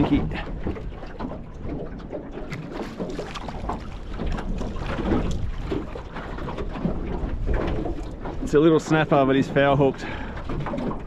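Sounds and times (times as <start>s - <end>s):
light knocks and splashes: 0.0s - 11.0s
water slapping against hull: 0.0s - 11.0s
wind buffeting microphone: 0.0s - 11.0s.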